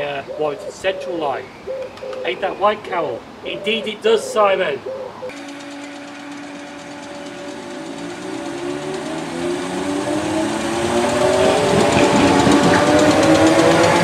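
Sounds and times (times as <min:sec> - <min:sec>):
electric train passing: 0:02.4 - 0:14.0.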